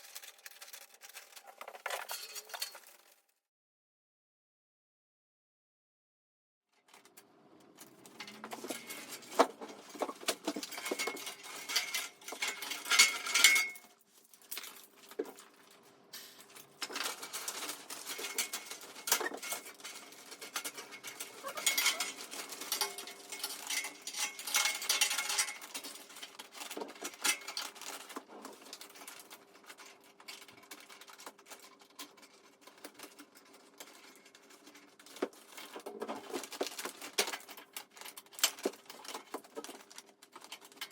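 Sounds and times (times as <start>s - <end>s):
parts clattering and tapping: 0.0s - 3.2s, 6.9s - 15.6s, 16.2s - 40.9s.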